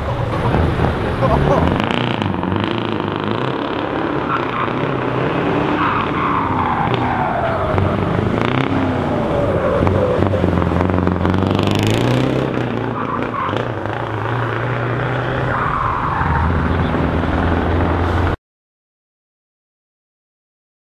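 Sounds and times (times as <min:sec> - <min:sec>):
truck engine revving hard: 0:00.0 - 0:18.4.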